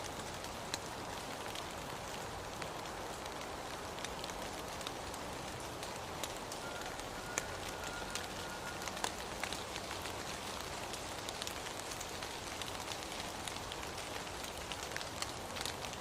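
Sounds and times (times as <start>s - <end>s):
raindrops ticking: 0.0s - 16.0s
steady rain hiss: 0.0s - 16.0s.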